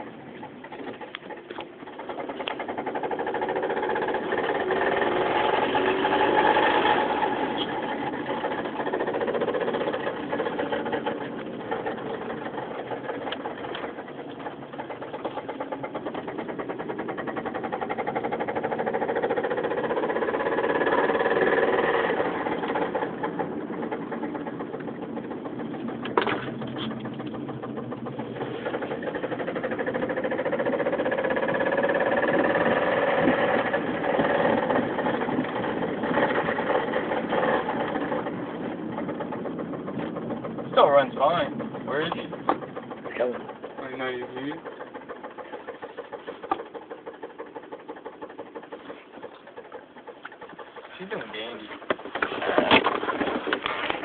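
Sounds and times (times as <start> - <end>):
engine with heavy rod knock: 0.4 - 54.0.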